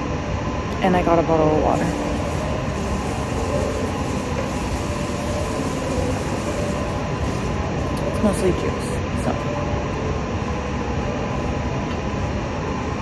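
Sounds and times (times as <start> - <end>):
airport terminal low rumble: 0.0 - 13.0.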